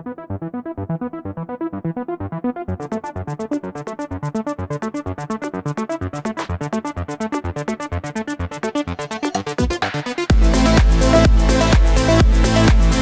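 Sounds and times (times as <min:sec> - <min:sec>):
electronic synthesizer music: 0:00.3 - 0:13.0.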